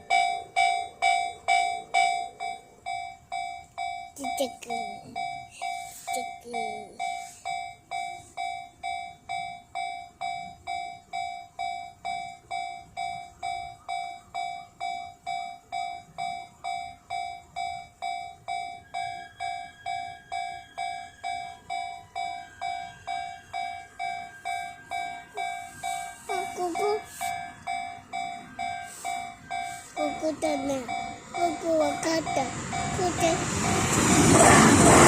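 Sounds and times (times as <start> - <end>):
faint steady whine: 0.0 - 34.3
level crossing bell clanging: 0.0 - 35.0.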